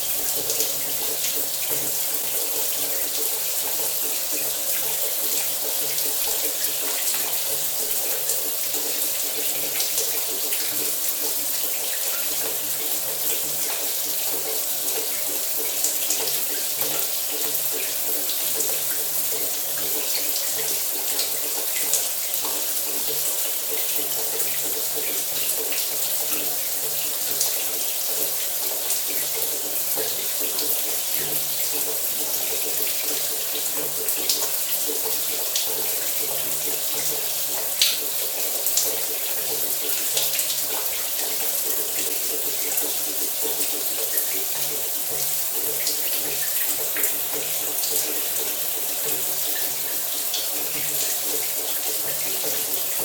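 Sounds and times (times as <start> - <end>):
shower water running: 0.0 - 53.0
water drips and splashes: 0.0 - 53.0.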